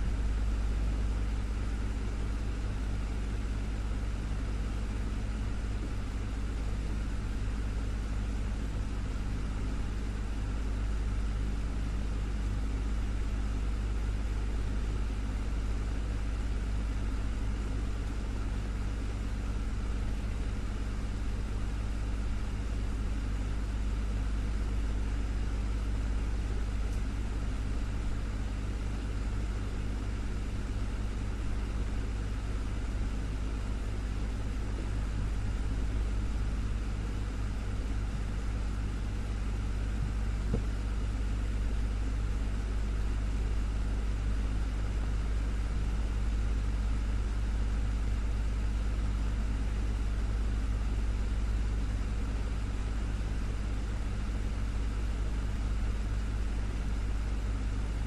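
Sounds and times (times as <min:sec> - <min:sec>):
electric fan motor hum: 0:00.0 - 0:58.0.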